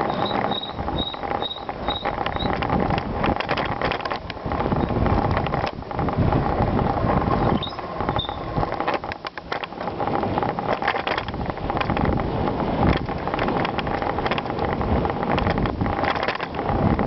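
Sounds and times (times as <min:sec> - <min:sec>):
bicycle rattling and clicking: 0:00.0 - 0:17.0
wind buffeting microphone: 0:00.0 - 0:17.0.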